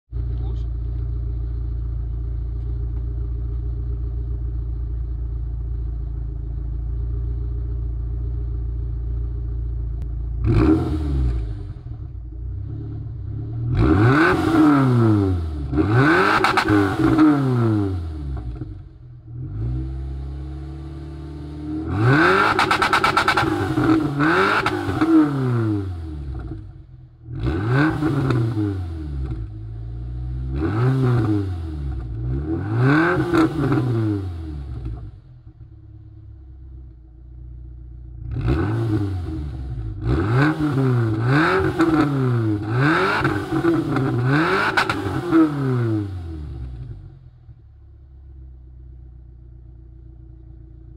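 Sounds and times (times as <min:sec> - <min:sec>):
car engine idling and revving: 0:00.1 - 0:50.9.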